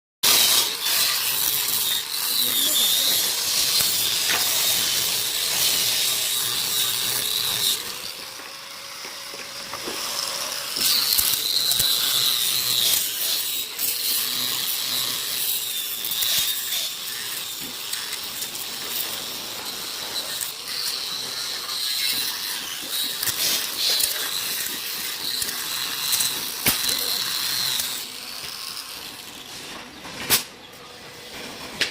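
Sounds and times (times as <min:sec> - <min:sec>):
woodworking machine running: 0:00.2 - 0:16.2, 0:16.9 - 0:31.9.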